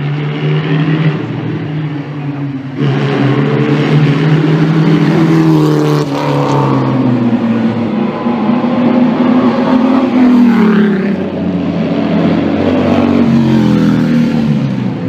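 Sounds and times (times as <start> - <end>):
racing car engine accelerating: 0.0 - 15.0.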